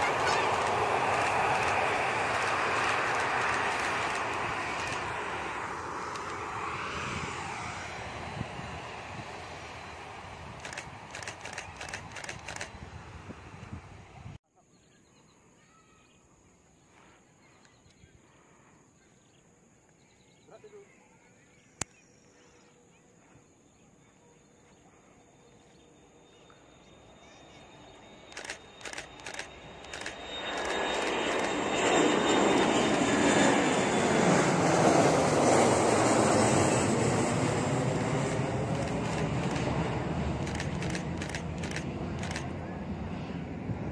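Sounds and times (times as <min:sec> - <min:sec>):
jet engines at takeoff: 0:00.0 - 0:14.4, 0:21.5 - 0:43.9.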